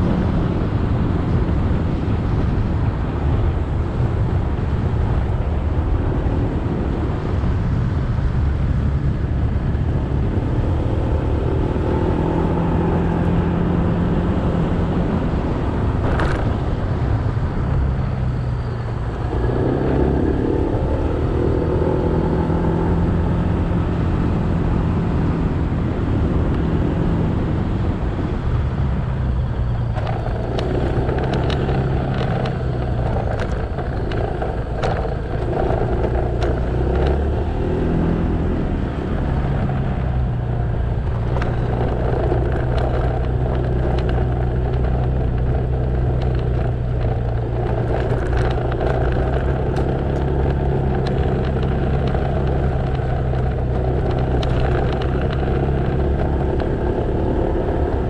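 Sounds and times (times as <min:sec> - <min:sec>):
road noise: 0:00.0 - 0:58.0
motorcycle engine running: 0:07.0 - 0:58.0.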